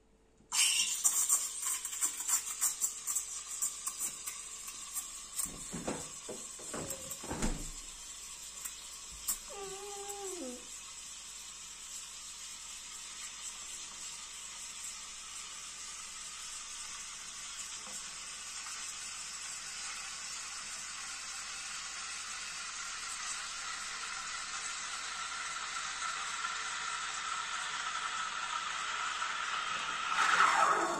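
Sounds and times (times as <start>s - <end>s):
steam wand hissing: 0.5s - 30.9s.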